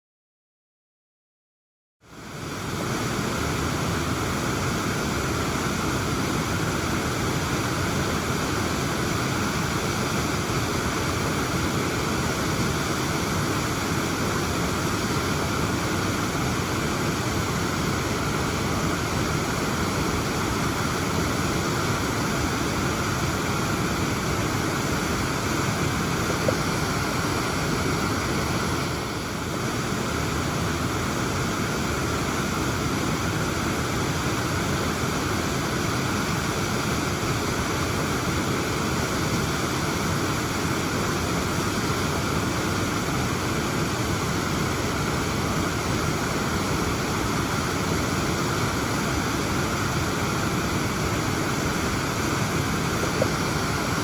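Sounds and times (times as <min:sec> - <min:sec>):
waterfall roaring: 0:02.2 - 0:54.0.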